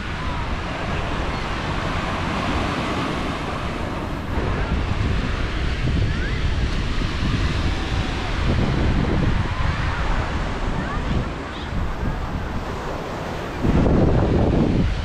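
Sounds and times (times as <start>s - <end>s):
surf waves breaking: 0.0s - 15.0s
wind rumbling on microphone: 0.0s - 15.0s.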